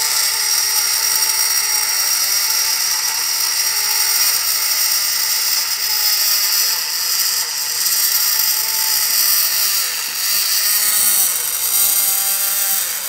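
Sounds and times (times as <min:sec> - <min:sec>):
engraving drill whining: 0:00.0 - 0:13.0.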